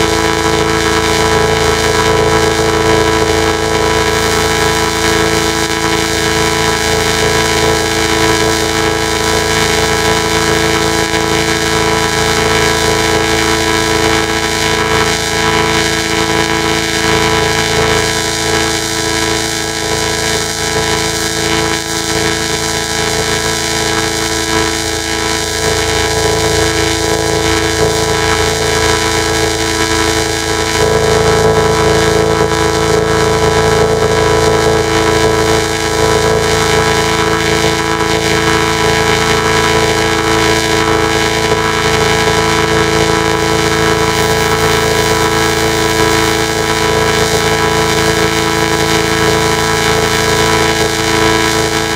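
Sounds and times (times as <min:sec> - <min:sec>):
distorted harsh drone: 0:00.0 - 0:51.9.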